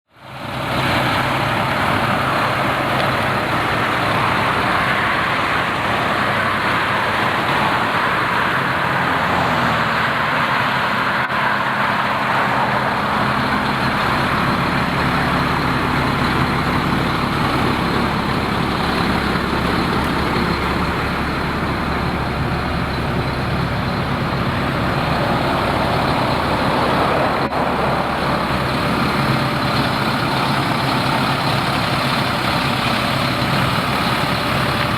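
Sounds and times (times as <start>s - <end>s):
diesel truck engine idling: 0.2s - 34.9s.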